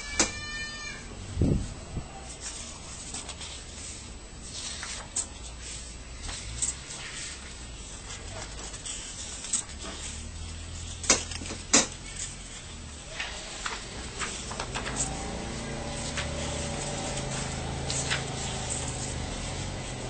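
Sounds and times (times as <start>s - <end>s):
paper sheets shifting: 2.1s - 20.0s.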